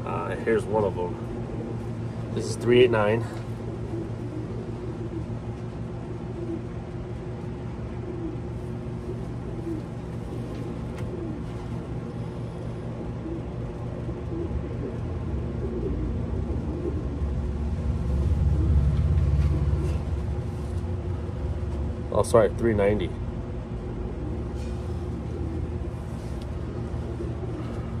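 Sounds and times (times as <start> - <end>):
pigeon cooing: 0.0 - 22.0, 23.6 - 28.0
low machine hum: 0.0 - 28.0.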